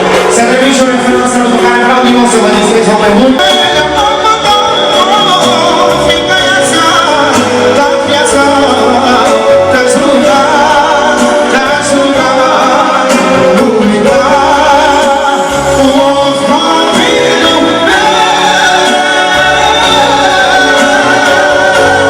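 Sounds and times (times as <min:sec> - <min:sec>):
live band with singing: 0:00.0 - 0:22.0.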